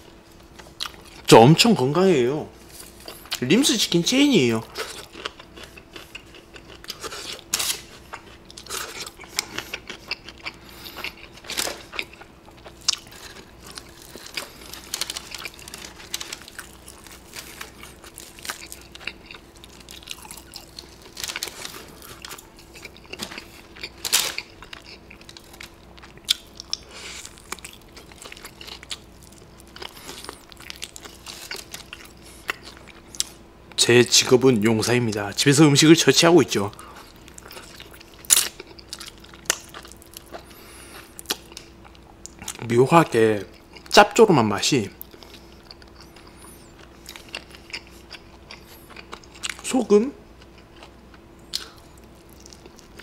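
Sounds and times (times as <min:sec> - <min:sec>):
chewing crunchy fried chicken: 0:00.2 - 0:01.3, 0:02.5 - 0:53.0.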